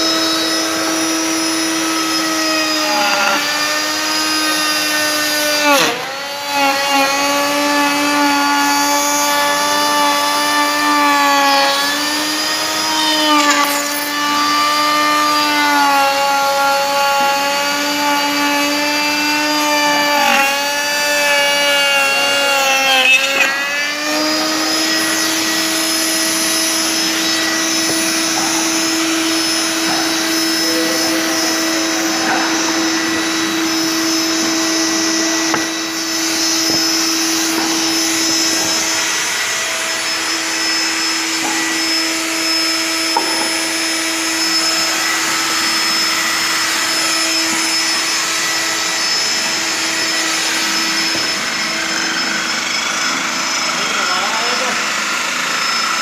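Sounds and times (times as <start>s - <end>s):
power tool cutting wood: 0.0s - 56.0s.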